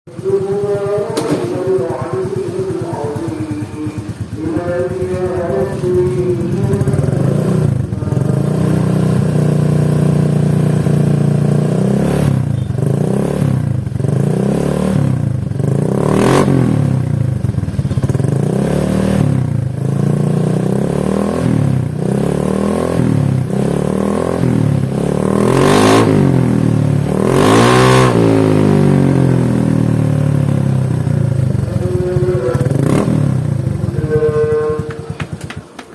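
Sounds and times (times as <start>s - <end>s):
scooter engine revving: 0.1s - 35.9s.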